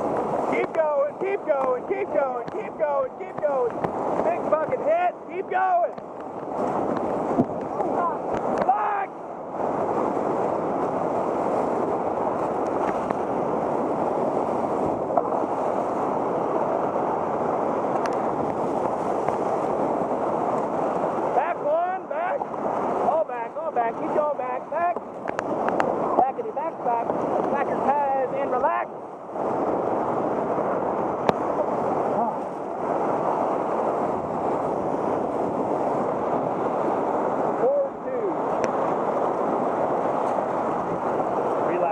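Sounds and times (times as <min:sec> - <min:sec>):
water splashing against raft: 0:00.0 - 0:41.9
whitewater rushing and crashing: 0:00.0 - 0:41.9.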